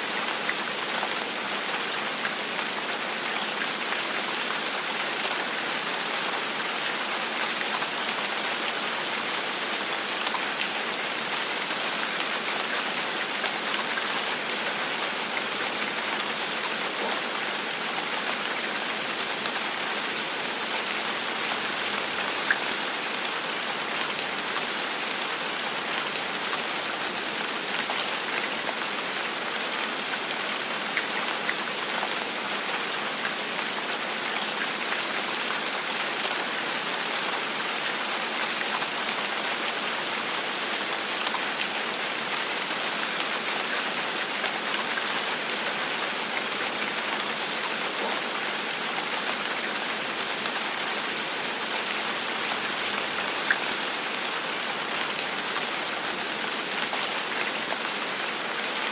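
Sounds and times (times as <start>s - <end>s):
gentle rain falling: 0.0s - 58.9s.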